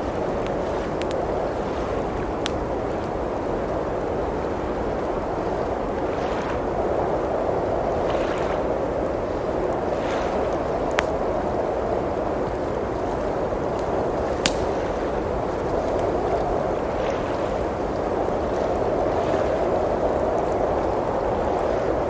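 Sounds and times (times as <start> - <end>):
blizzard wind blowing: 0.0 - 22.0
fireplace crackling: 0.0 - 22.0.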